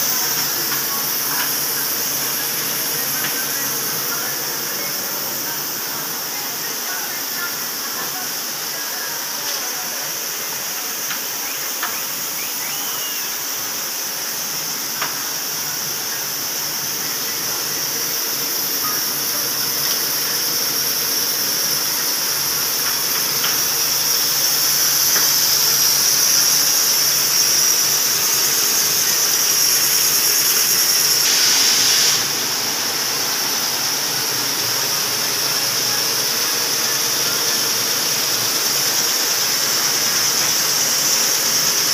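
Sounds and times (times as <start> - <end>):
machine whine and hiss: 0.0 - 41.9.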